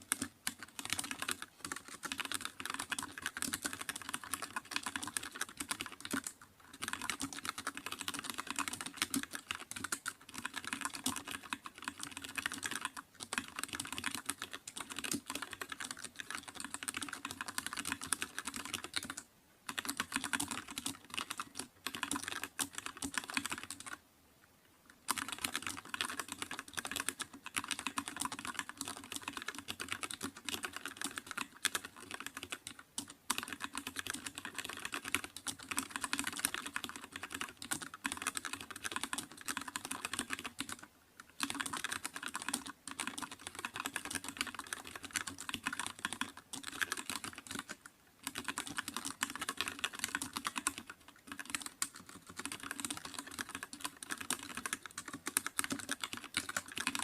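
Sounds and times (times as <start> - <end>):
fast typing on keyboard: 0.0 - 24.0, 25.1 - 57.0.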